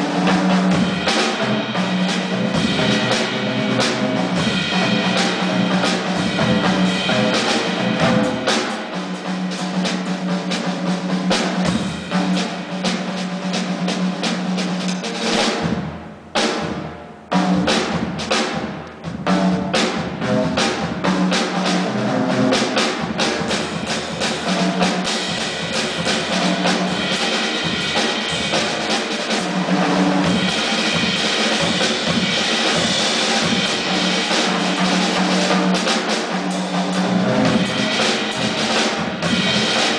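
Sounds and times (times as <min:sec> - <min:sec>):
drum kit solo: 0:00.0 - 0:39.9.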